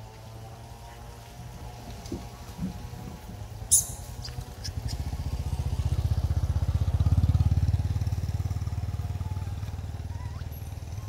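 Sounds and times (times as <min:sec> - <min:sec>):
vehicle engine throbbing: 0:00.0 - 0:11.0.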